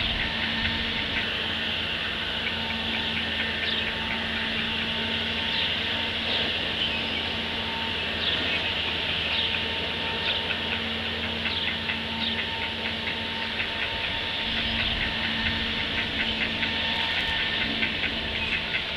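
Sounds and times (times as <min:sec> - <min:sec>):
low hum: 0:00.0 - 0:18.9.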